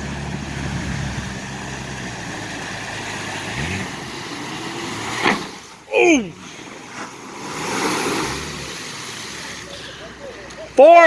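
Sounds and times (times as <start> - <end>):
vehicle engine revving: 0.0 - 10.7.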